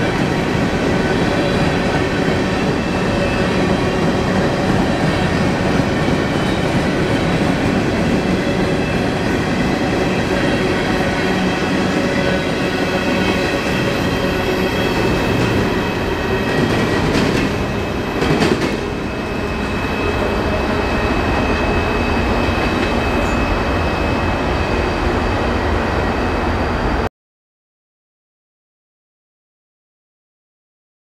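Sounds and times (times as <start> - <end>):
freight train rolling on rails: 0.0 - 27.1.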